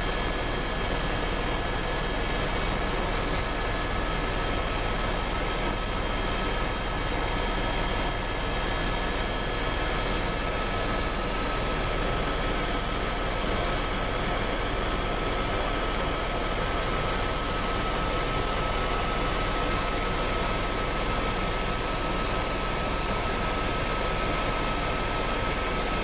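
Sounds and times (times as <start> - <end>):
helicopter roar and whine: 0.0 - 26.0.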